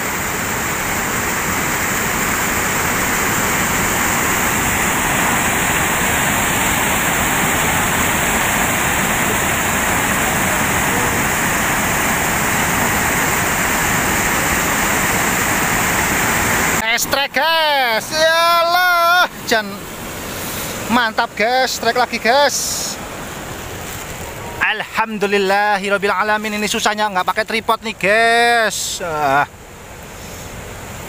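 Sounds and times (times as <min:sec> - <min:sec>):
river water rushing over a weir: 0:00.0 - 0:31.0.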